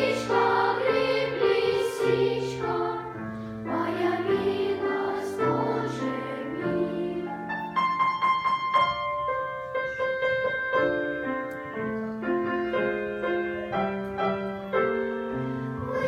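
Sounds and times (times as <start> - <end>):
piano playing melody and chords: 0.0 - 16.0.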